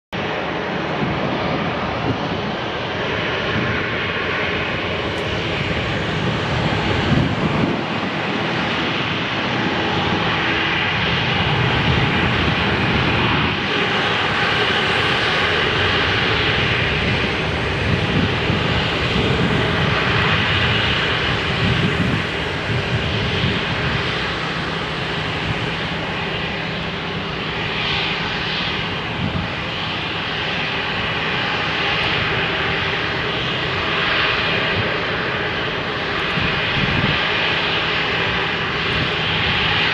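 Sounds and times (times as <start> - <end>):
jet engines roaring: 0.2 - 39.9.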